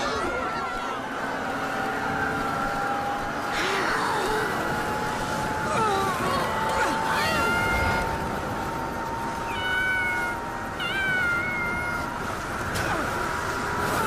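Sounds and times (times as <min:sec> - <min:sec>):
constant high hum: 0:00.0 - 0:14.0
steady rushing noise: 0:00.0 - 0:14.0.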